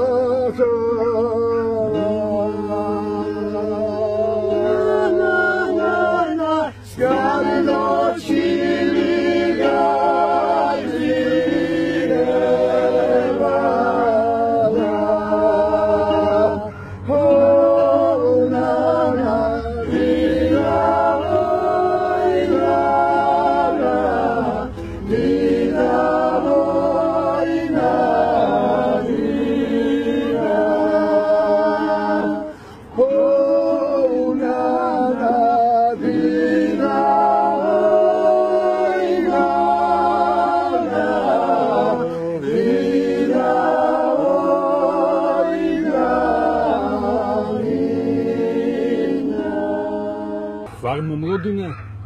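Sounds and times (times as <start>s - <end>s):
a cappella choir singing: 0.0s - 50.8s.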